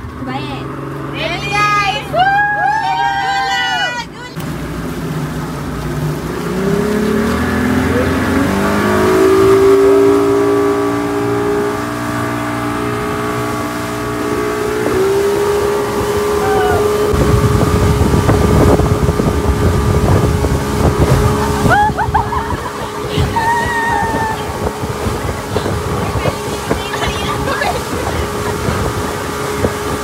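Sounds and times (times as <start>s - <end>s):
outboard motor accelerating: 0.0s - 30.0s
rushing of wind and water: 0.0s - 30.0s.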